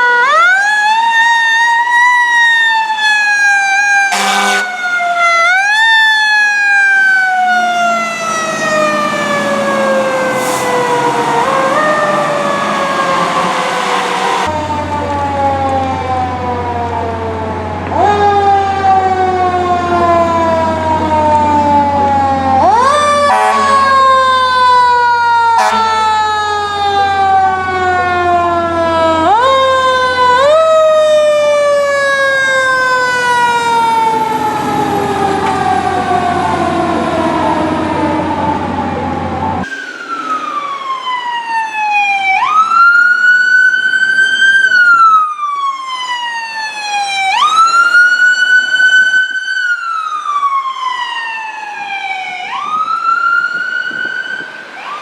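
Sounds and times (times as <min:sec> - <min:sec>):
fire truck siren wailing: 0:00.0 - 0:55.0.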